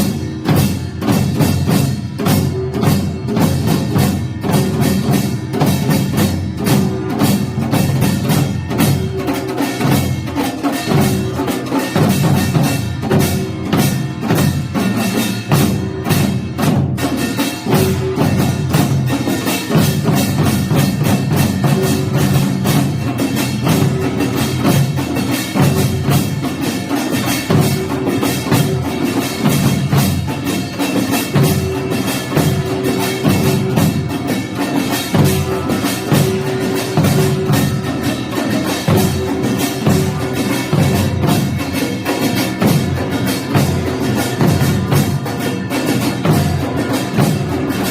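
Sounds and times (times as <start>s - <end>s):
fast drum and gong strikes: 0.0s - 47.9s.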